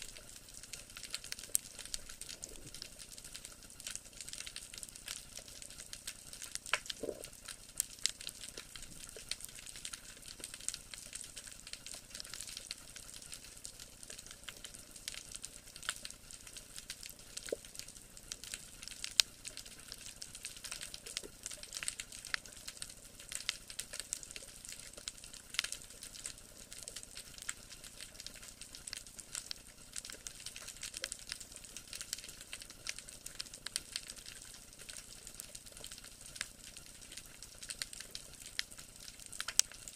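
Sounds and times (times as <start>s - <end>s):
underwater crackle of clicks: 0.0s - 39.9s.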